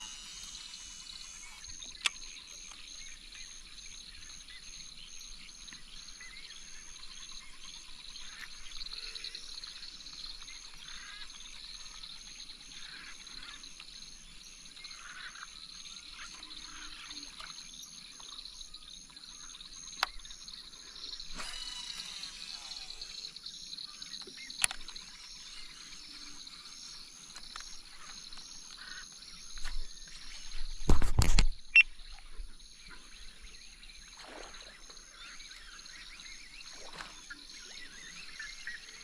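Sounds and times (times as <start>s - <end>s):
bird calls: 0.0s - 39.0s
high insect drone: 0.0s - 39.0s
regular insect chirp: 0.0s - 39.0s.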